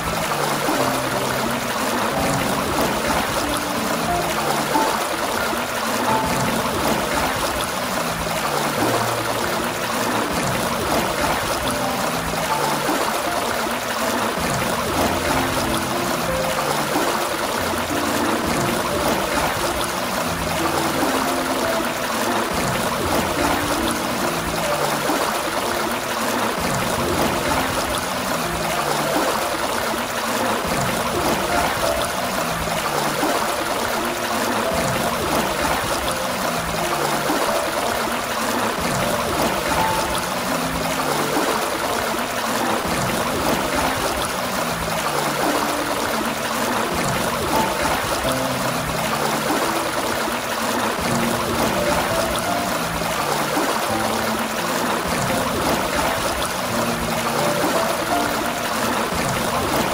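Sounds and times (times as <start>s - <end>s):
fountain water gushing: 0.0s - 59.9s.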